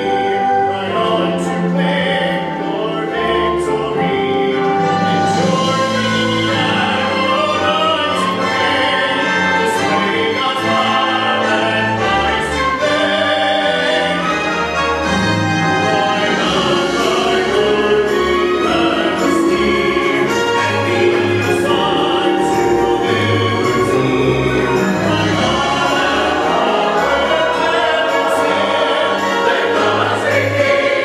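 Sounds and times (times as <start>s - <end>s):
choir singing: 0.0s - 31.0s
instrumental accompaniment: 0.0s - 31.0s.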